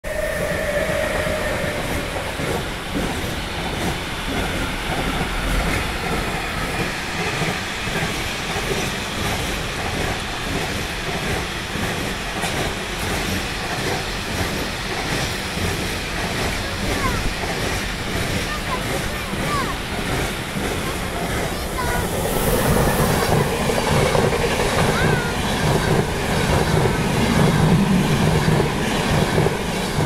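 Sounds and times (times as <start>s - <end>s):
electric locomotive whine: 0.0s - 30.0s
freight train wheels rumbling: 0.0s - 30.0s.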